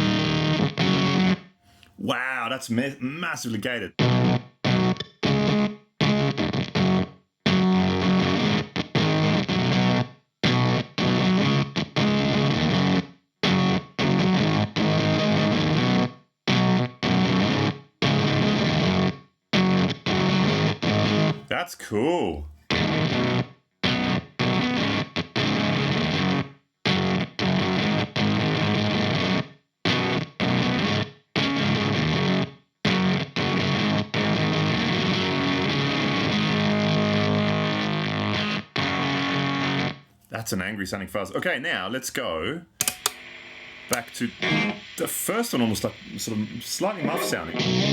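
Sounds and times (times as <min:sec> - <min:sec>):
distorted electric guitar chords: 0:00.0 - 0:01.4, 0:03.6 - 0:19.1, 0:22.7 - 0:40.0, 0:42.8 - 0:47.9.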